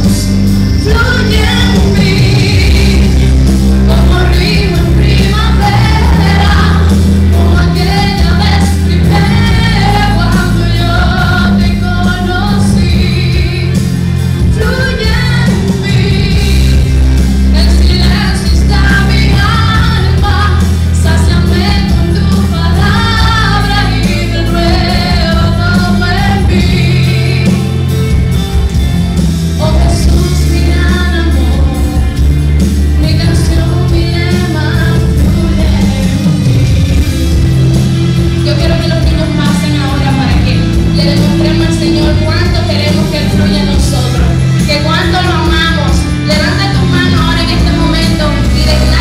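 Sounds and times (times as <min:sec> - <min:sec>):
person singing: 0:00.0 - 0:28.0, 0:29.6 - 0:32.4, 0:33.0 - 0:49.0
church band worship music: 0:00.0 - 0:49.0.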